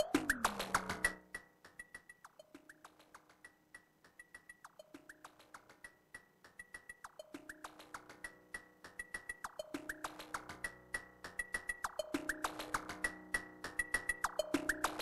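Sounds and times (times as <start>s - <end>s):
electronic music with dry clicks: 0.0s - 15.0s.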